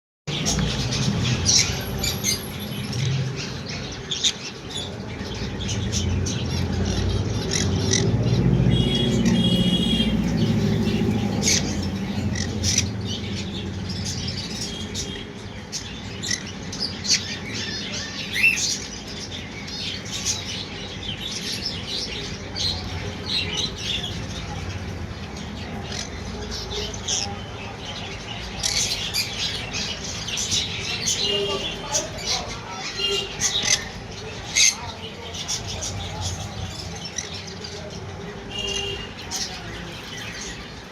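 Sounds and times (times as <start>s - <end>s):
birds chirping and squawking: 0.3s - 40.9s.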